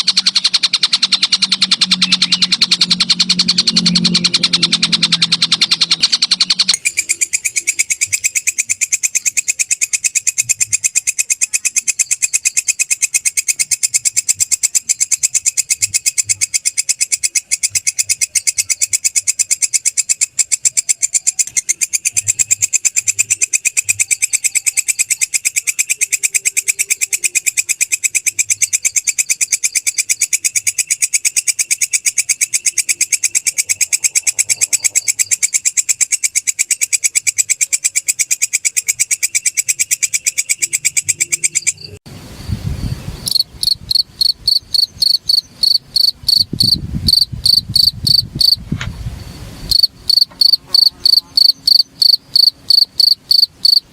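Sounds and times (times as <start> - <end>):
insect buzzing trill: 0.0 - 42.0, 43.2 - 48.6, 49.6 - 53.9
cricket chirping in high pulses: 0.0 - 53.9.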